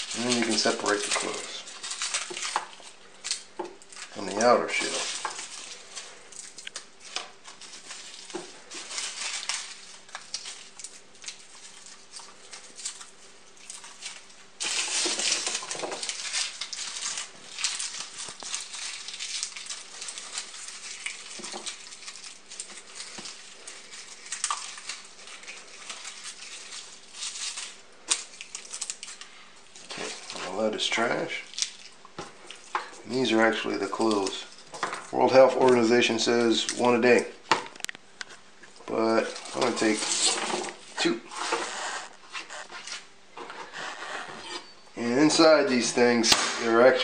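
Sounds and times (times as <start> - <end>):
garlic skins crackling and rustling: 0.0 - 47.0.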